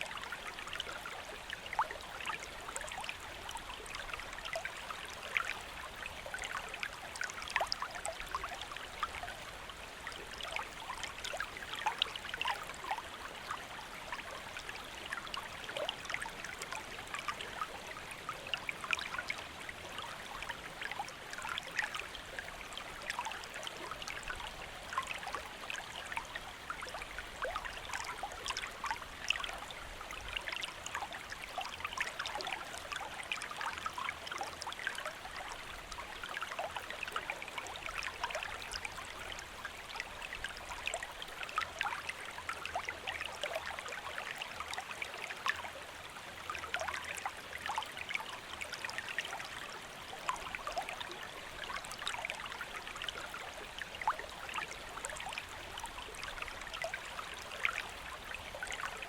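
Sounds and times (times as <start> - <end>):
shallow stream flowing over stones: 0.0 - 59.0.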